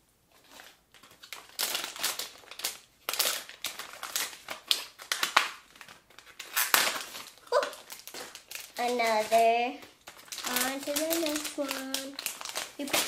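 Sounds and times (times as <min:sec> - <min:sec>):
plastic packaging crinkling: 0:00.3 - 0:13.0.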